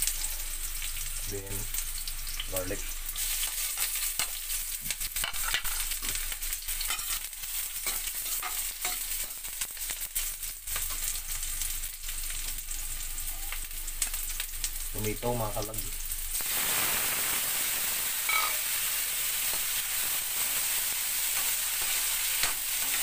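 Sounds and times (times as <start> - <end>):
onion and garlic sizzling in oil: 0.0 - 23.0.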